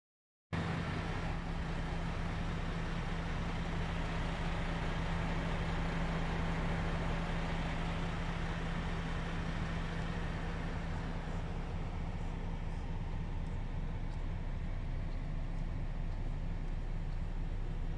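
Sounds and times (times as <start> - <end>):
diesel truck engine idling: 0.6 - 17.9.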